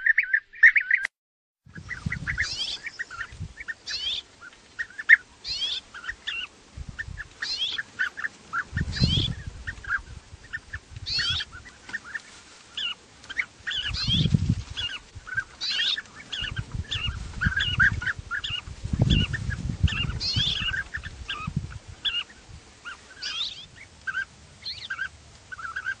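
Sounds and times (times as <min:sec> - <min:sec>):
flock of birds calling: 0:00.0 - 0:01.1, 0:01.7 - 0:26.0.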